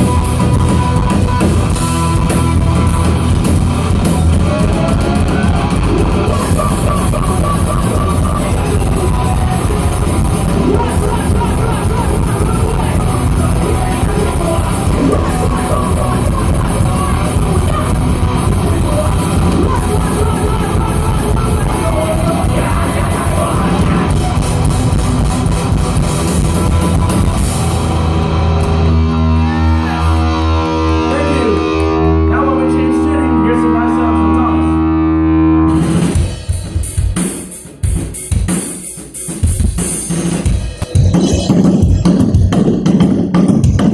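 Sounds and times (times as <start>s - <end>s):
drum kit: 0.0s - 32.8s, 35.0s - 43.9s
electric guitar: 0.0s - 37.2s.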